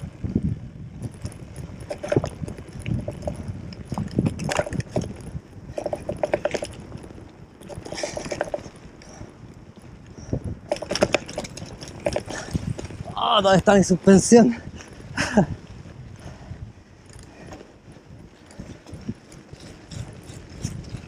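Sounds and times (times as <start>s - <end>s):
bike rattling and clattering: 0.0s - 21.0s
tyres rumbling on gravel: 0.0s - 21.0s.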